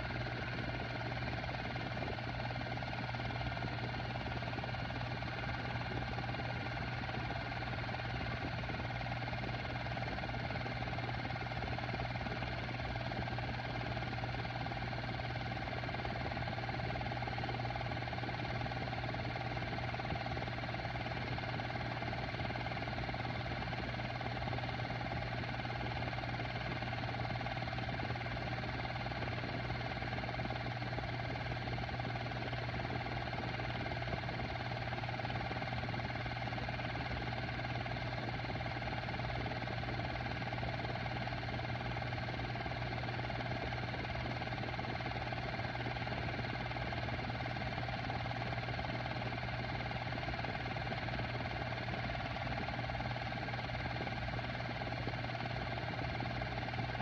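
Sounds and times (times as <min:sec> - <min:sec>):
projector motor hum: 0:00.0 - 0:57.0.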